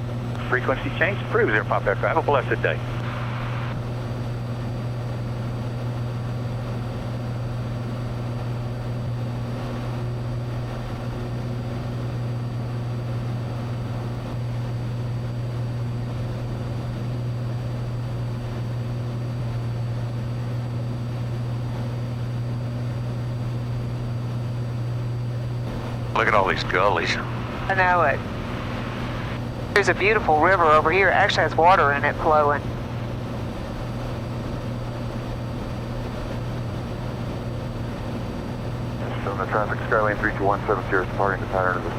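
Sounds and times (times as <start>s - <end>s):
airplane engine drone in cabin: 0.0s - 41.9s.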